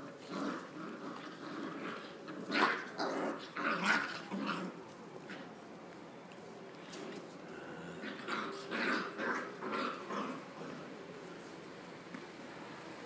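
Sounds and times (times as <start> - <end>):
puppies growling: 0.0 - 5.7, 6.7 - 11.5.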